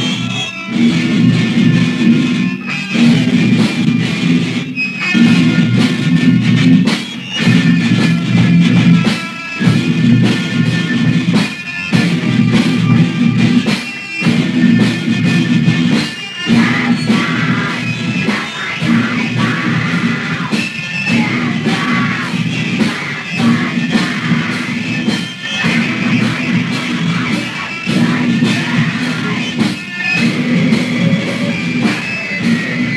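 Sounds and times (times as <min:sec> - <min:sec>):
punk band playing: 0:00.0 - 0:32.9.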